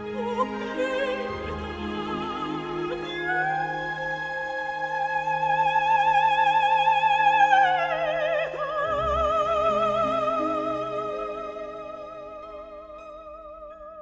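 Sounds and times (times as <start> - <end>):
operatic singing with vibrato: 0.0 - 13.2
musical accompaniment: 0.0 - 14.0.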